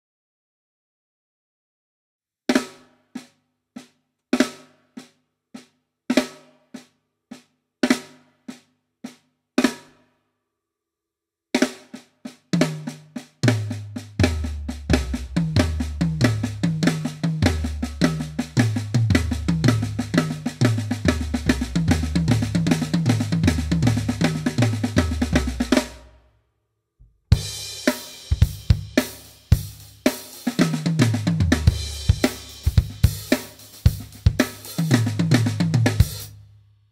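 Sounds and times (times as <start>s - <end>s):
drum rudiment on snare and toms: 2.5s - 10.0s, 11.6s - 26.1s, 27.0s - 36.5s.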